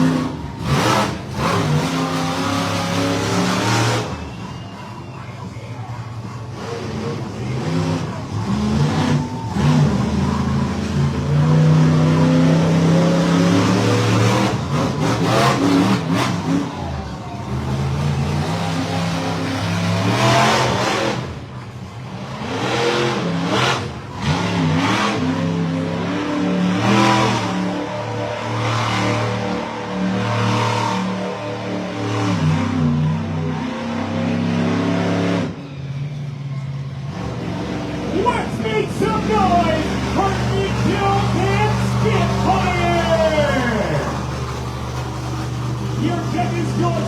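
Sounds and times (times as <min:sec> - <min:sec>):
truck engine revving hard: 0:00.0 - 0:47.0.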